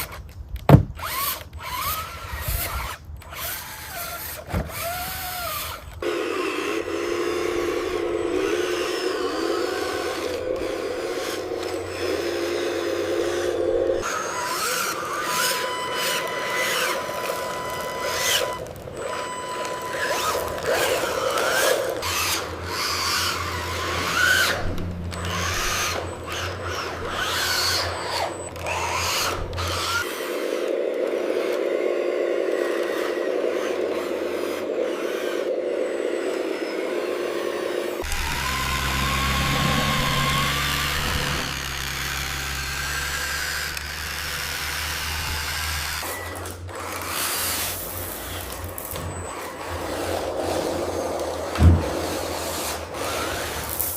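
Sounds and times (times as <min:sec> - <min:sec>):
small electric motors whirring: 0:00.0 - 0:53.9.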